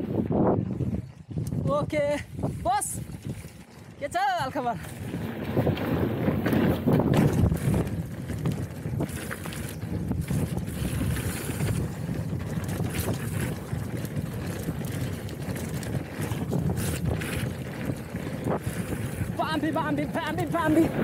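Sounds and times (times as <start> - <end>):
wind buffeting microphone: 0.0 - 21.0
bike clicks and rattles: 0.6 - 21.0.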